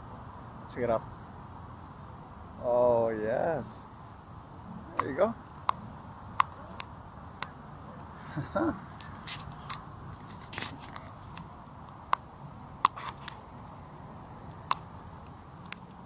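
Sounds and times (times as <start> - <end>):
bike riding rumble: 0.0 - 16.0.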